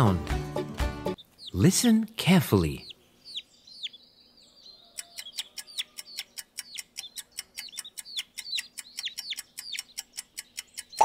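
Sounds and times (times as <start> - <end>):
chicks peeping: 1.1 - 11.0.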